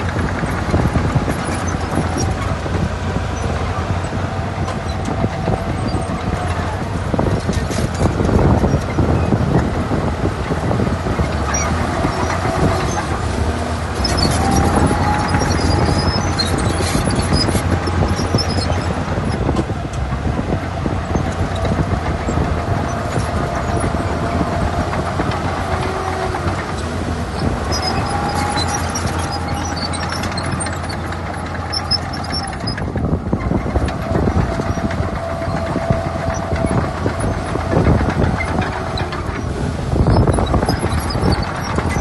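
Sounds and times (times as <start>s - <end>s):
bulldozer diesel engine drone: 0.0s - 42.0s.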